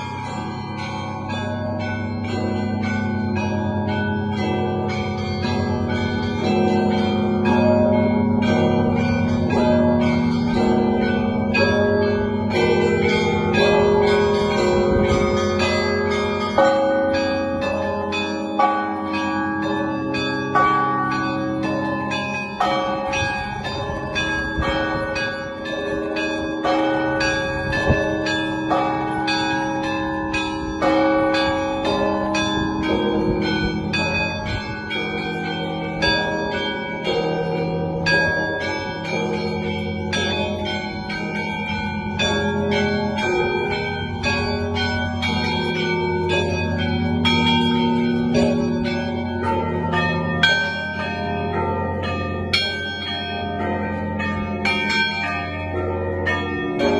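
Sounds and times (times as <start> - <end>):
lingering tones of large bells: 0.0 - 56.9
small church bells ringing: 0.0 - 56.9.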